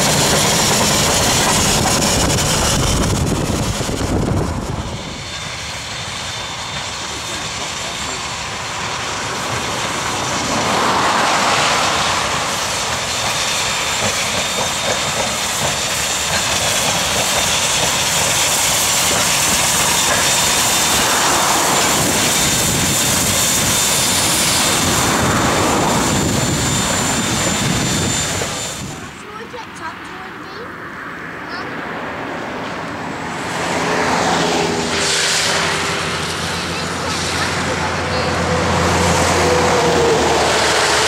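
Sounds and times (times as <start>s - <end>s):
steam locomotive exhaust: 0.0s - 29.9s, 33.6s - 41.0s.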